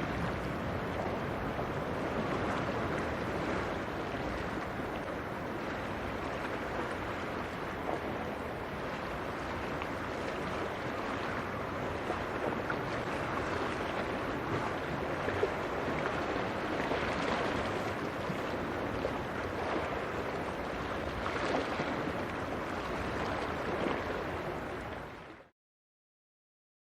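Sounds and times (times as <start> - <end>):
wind on microphone: 0.0 - 25.4
sea water rushing: 0.0 - 25.5
wind: 0.0 - 25.5.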